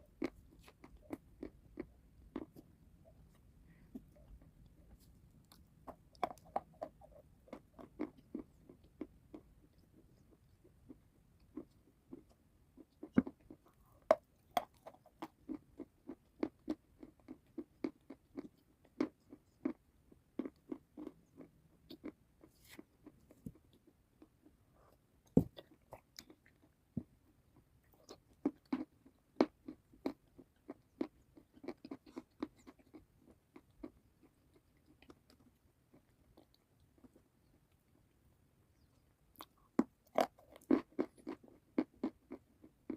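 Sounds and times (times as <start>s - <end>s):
chewing crunchy food: 0.0s - 42.9s.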